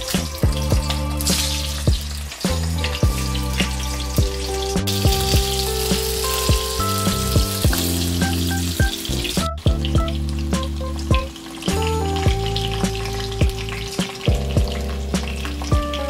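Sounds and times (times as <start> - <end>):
background music with beat: 0.0 - 16.0
banana frying in oil: 0.0 - 16.0.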